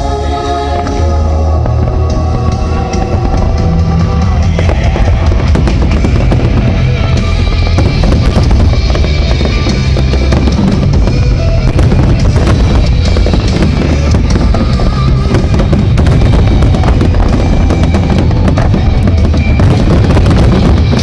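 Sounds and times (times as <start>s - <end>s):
loud music with drums: 0.0s - 21.0s
fireworks bursting and crackling: 0.7s - 21.0s.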